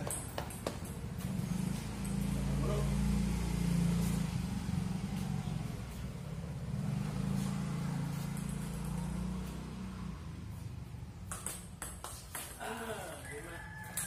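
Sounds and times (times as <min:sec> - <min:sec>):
vehicle engine humming: 0:00.0 - 0:13.3.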